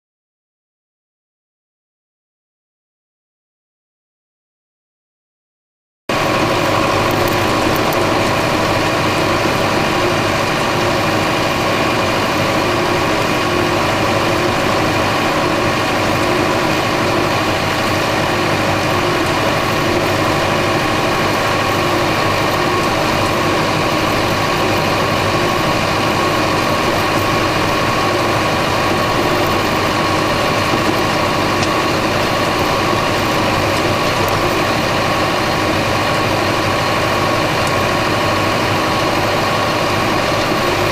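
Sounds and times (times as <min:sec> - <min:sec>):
tractor diesel engine running: 0:06.1 - 0:40.9.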